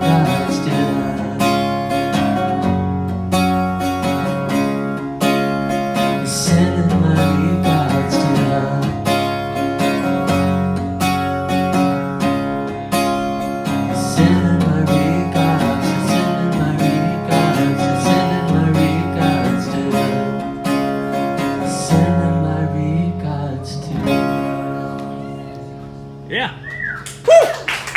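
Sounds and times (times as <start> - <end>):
steady bass line: 0.0 - 24.9
strummed acoustic guitar: 0.0 - 27.0.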